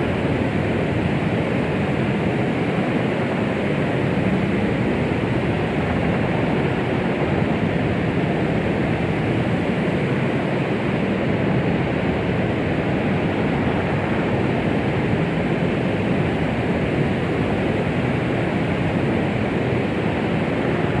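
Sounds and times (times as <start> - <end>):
steady white noise hiss: 0.0 - 21.0.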